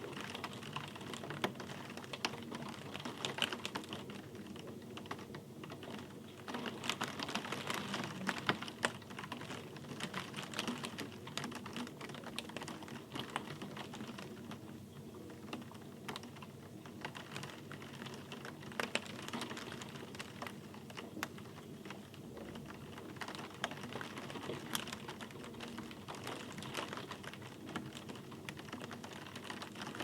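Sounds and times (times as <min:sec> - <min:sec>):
raindrops ticking: 0:00.0 - 0:30.0.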